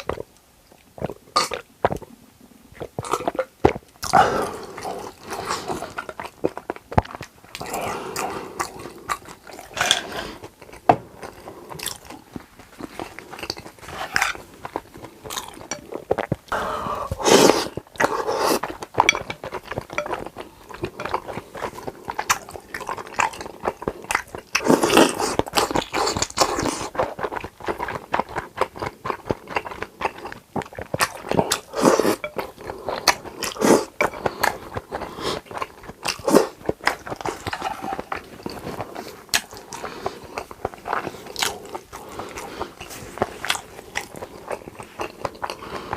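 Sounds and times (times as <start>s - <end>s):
person crunching and chewing food: 0.0s - 45.9s.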